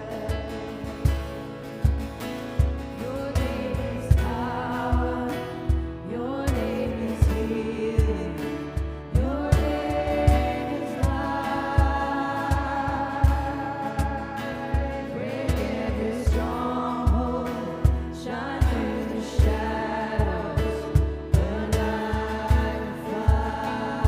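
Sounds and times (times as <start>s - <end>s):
band with bass and drums: 0.0s - 24.0s
gospel voices singing: 0.0s - 24.0s.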